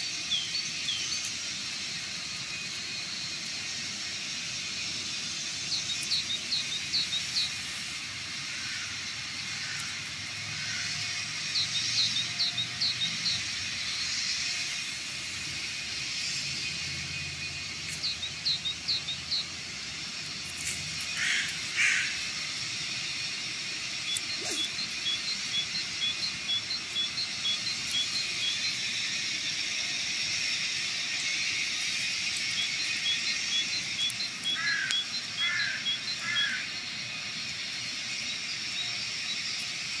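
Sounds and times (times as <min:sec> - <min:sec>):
lower falling bird calls: 0:00.0 - 0:40.0
steady high hiss: 0:00.0 - 0:40.0.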